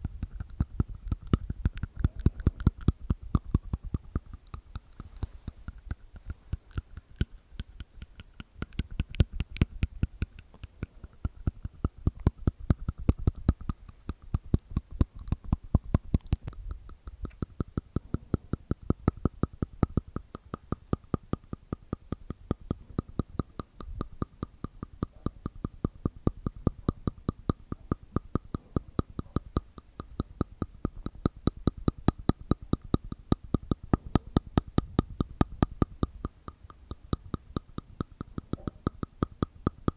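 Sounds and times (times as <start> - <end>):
wet mouth clicks and pops: 0.0 - 39.9.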